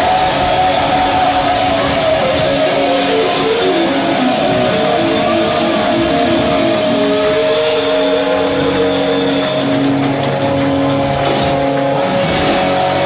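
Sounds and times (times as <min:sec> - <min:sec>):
electric guitar melody: 0:00.0 - 0:13.0
rock band playing: 0:00.0 - 0:13.0.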